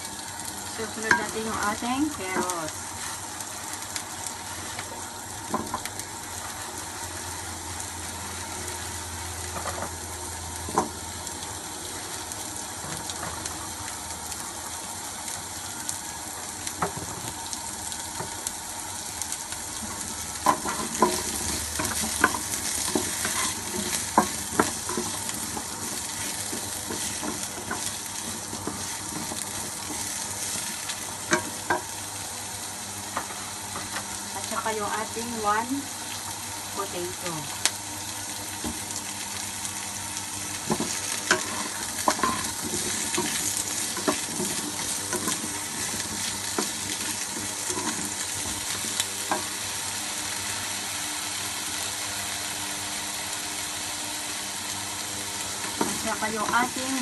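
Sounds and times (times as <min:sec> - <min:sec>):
vegetables sizzling in wok: 0:00.0 - 0:57.0.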